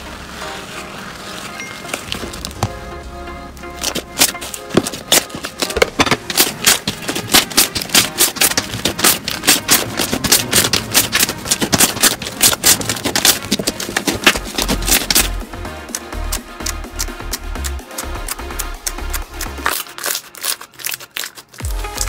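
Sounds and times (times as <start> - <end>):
slime squeezed by hand crackling: 3.6 - 22.0.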